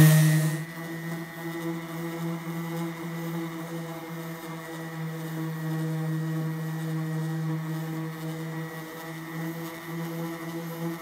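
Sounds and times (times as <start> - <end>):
orbital sander humming: 0.0 - 11.0.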